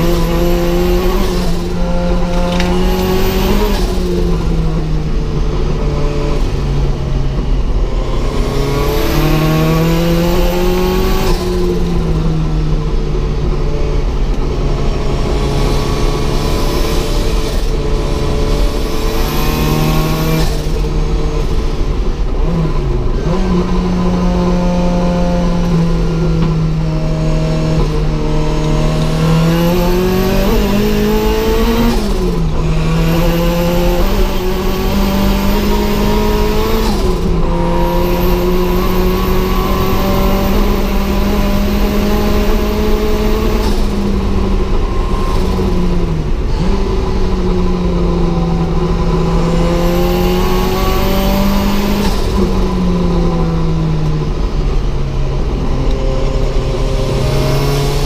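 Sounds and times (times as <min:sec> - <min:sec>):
car engine revving under load: 0:00.0 - 0:58.0.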